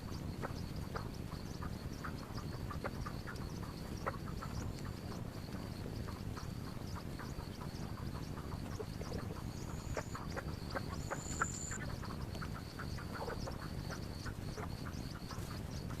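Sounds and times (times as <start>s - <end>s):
croak-like animal calls: 0.0s - 16.0s
high-pitched insect tone: 0.0s - 16.0s.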